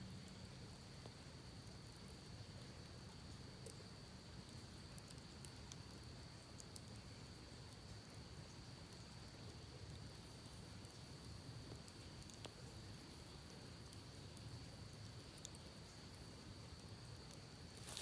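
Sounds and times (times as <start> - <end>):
campfire crackling: 0.2 - 18.0.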